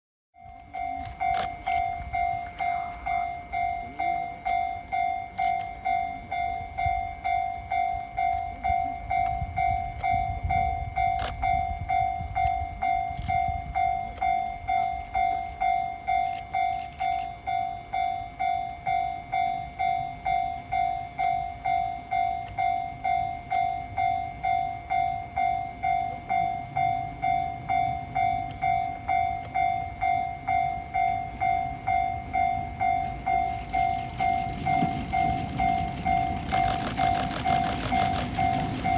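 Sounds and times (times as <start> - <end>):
level crossing bell ringing: 0.4 - 38.9
passing train rumble: 0.4 - 38.9.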